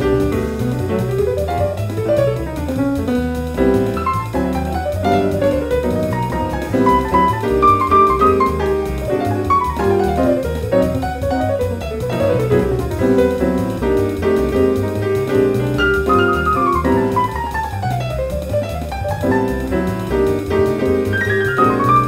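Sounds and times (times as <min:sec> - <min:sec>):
jazz grand piano: 0:00.0 - 0:22.0.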